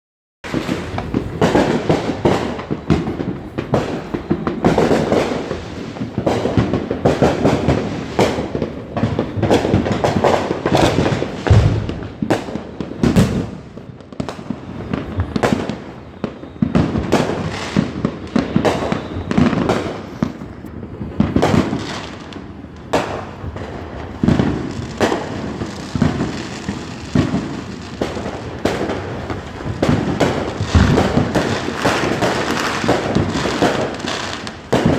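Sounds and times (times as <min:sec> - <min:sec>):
fireworks bangs and crackles: 0:00.4 - 0:34.9.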